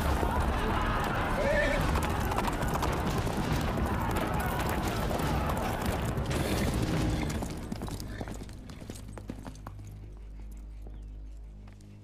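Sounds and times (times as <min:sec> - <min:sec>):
horse hoofbeats on hard ground: 0:00.0 - 0:11.1.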